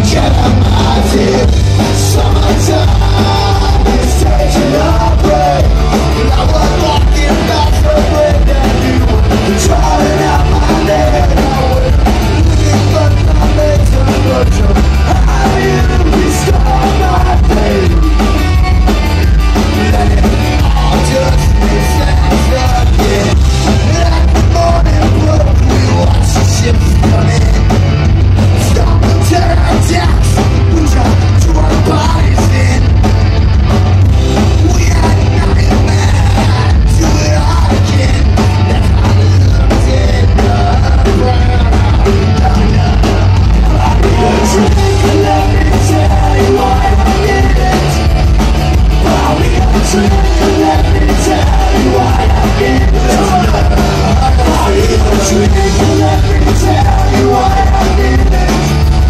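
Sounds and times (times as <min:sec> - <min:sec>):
person singing: 0:00.0 - 0:27.7, 0:28.7 - 0:33.0, 0:34.5 - 0:48.2, 0:48.8 - 0:59.0
live reggae-punk band: 0:00.0 - 0:59.0.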